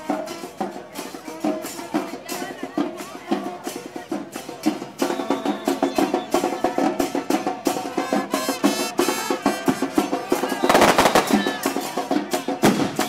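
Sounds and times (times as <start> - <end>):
drum group playing: 0.0 - 13.0.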